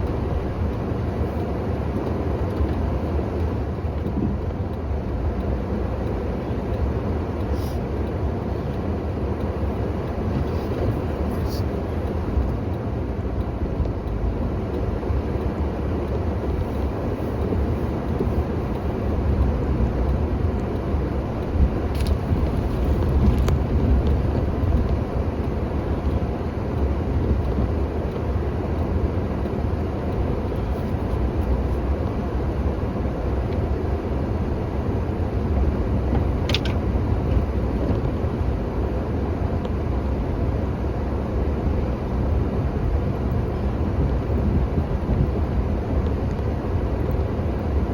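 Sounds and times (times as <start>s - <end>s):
vehicle engine rumbling: 0.0s - 47.9s.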